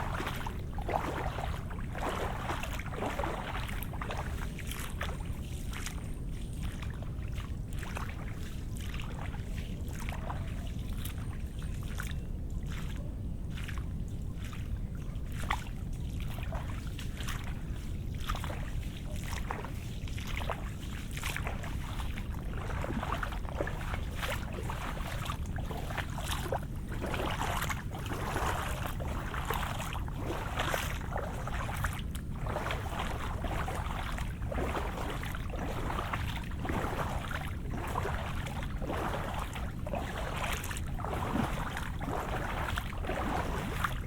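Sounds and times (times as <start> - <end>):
footsteps on wet ground: 0.0 - 44.0
steady low rumble: 0.0 - 44.0.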